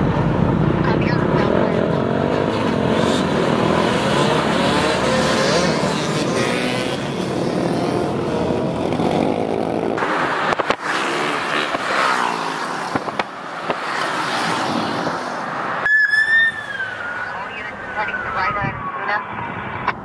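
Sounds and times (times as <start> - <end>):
dirt bike engines revving: 0.8 - 19.6.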